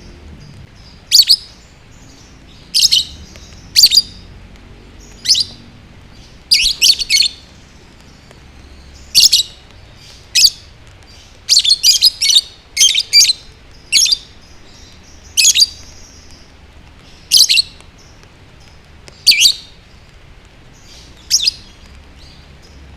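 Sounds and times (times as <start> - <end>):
bird chirping: 0.0 - 22.9.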